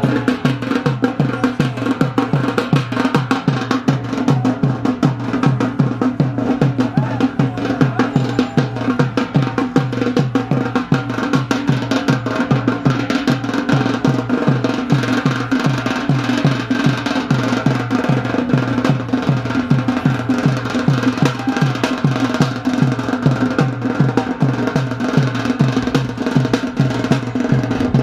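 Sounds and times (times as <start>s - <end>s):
deep drum strokes: 0.0s - 28.0s.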